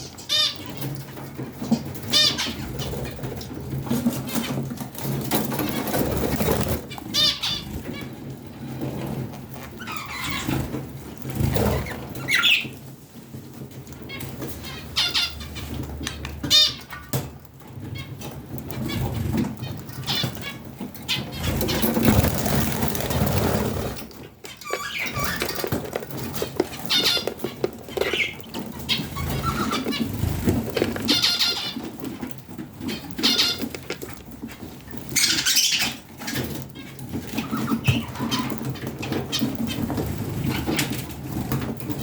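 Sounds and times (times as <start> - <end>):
budgerigars chirping and chattering: 0.0 - 12.8, 13.8 - 42.0.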